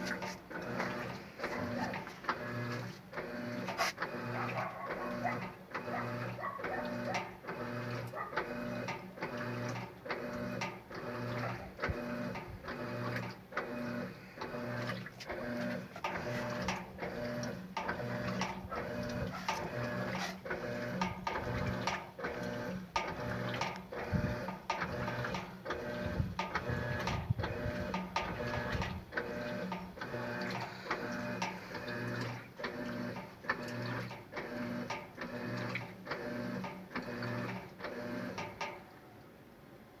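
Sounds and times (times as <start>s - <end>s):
washing machine agitating: 0.0s - 38.9s.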